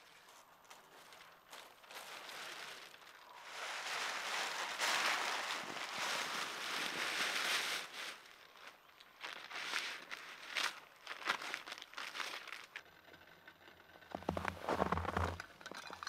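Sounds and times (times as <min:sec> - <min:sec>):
rustling: 0:00.0 - 0:16.0.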